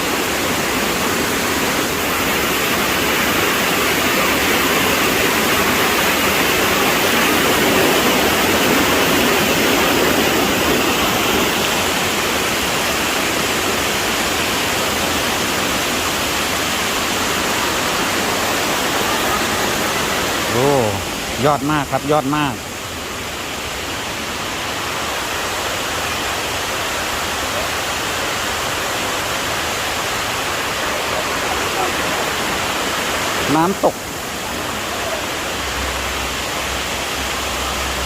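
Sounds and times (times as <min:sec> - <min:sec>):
water rushing over rock: 0:00.0 - 0:38.0.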